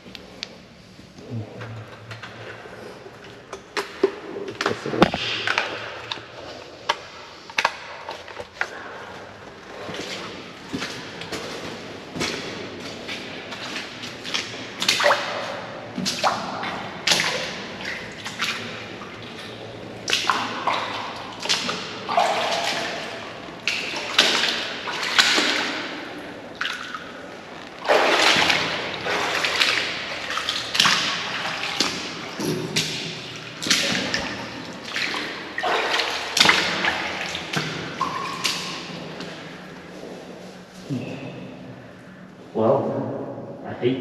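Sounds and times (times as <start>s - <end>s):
boots splashing through water: 2.2s - 42.1s.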